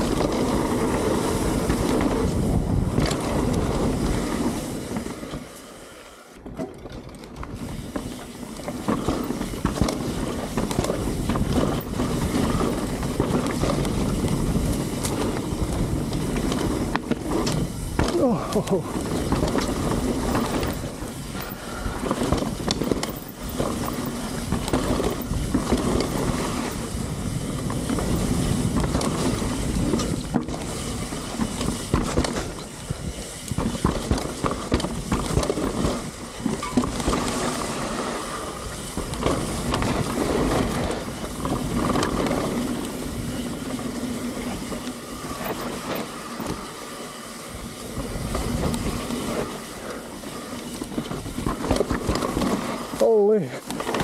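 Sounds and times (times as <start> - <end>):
bike rattling and knocking: 0.0 - 5.5, 6.4 - 54.0
bike tyres rolling on dirt: 0.0 - 54.0.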